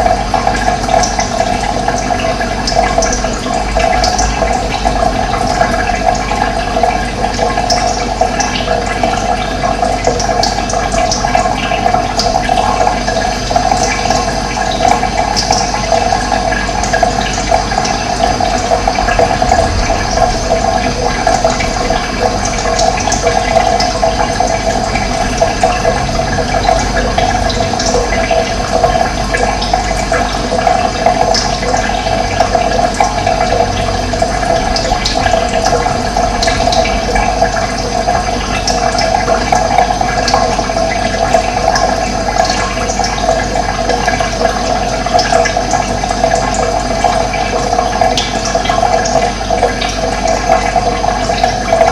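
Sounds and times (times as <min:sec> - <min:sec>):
running water: 0:00.0 - 0:51.9.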